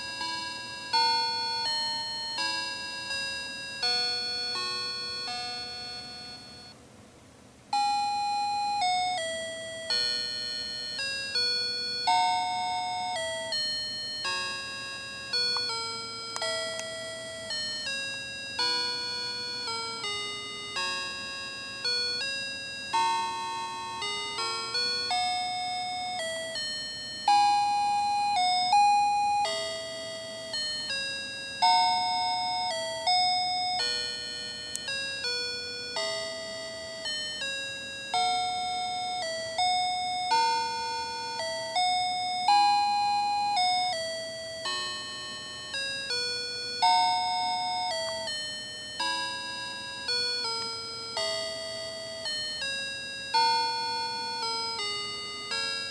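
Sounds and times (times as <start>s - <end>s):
baby toy electronic chime melody: 0.0s - 6.8s, 7.8s - 55.9s.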